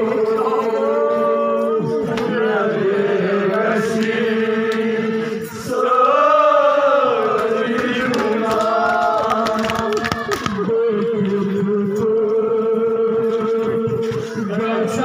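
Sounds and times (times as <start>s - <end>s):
men's voices chanting: 0.0s - 15.0s.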